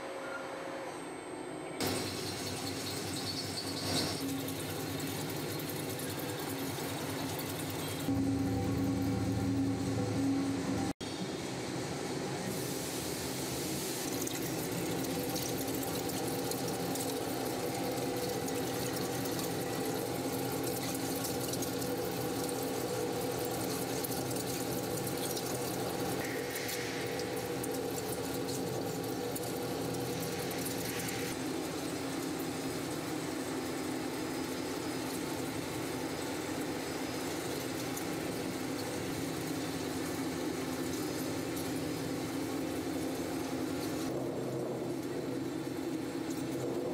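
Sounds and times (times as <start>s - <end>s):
milling machine humming: 1.8s - 46.9s.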